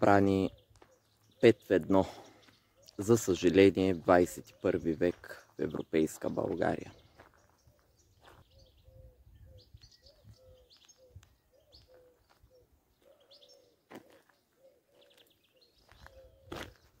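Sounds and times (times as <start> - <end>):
low repeated bird call: 0.0 - 17.0.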